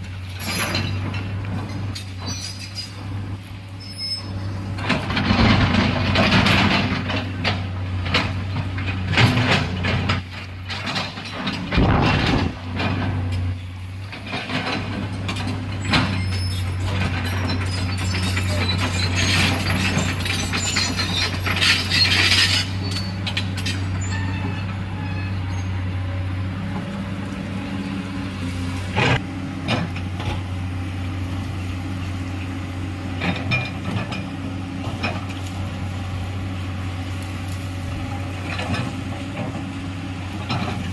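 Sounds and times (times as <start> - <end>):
bucket and tracks clanking: 0.0 - 40.9
excavator diesel engine: 0.0 - 40.9.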